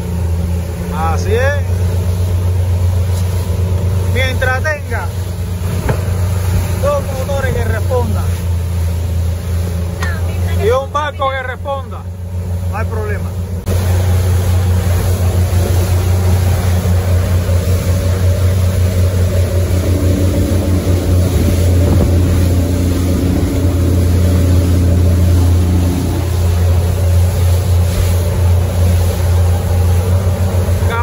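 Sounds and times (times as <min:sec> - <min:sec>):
higher hum: 0:00.0 - 0:31.0
outboard engines droning: 0:00.0 - 0:31.0
rush of wind and water: 0:00.0 - 0:31.0.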